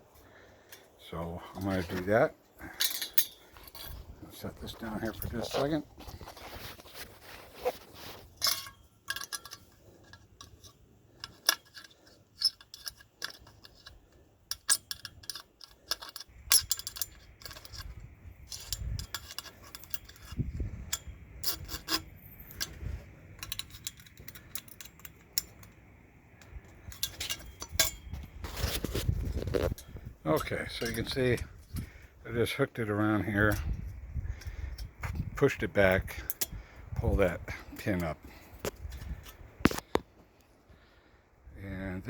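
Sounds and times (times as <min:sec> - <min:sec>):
small metal clicks and scrapes: 0:01.5 - 0:32.6, 0:33.2 - 0:40.1.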